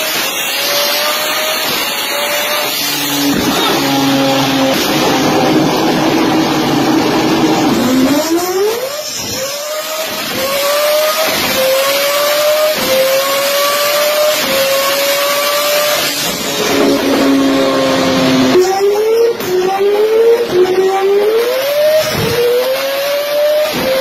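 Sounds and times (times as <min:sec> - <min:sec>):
racing engine revving on dyno: 0:00.0 - 0:24.0.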